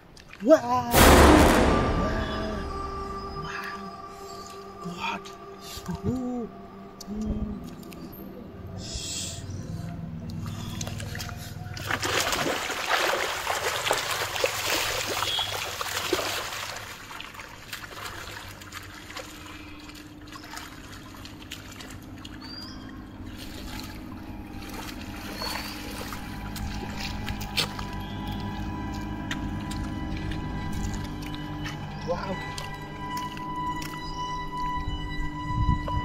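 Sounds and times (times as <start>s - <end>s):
muddy water splashing: 0.0s - 35.0s.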